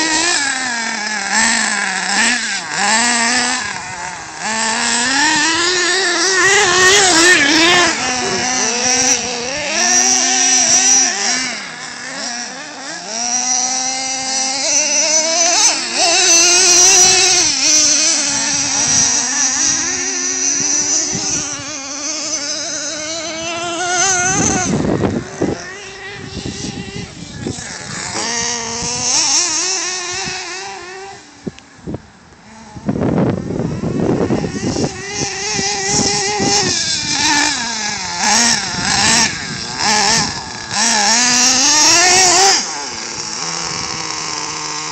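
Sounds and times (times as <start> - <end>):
high-pitched model engines buzzing: 0.0 - 44.9.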